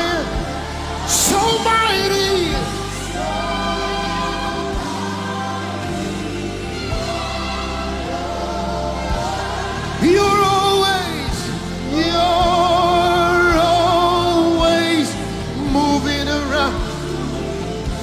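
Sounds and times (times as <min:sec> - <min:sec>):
gospel worship music: 0:00.0 - 0:18.0
lead melody with vibrato: 0:00.0 - 0:18.0.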